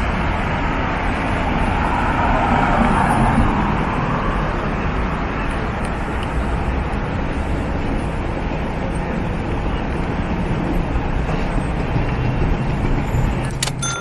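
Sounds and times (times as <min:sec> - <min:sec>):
city street traffic rumble: 0:00.0 - 0:14.0
tram: 0:00.0 - 0:14.0.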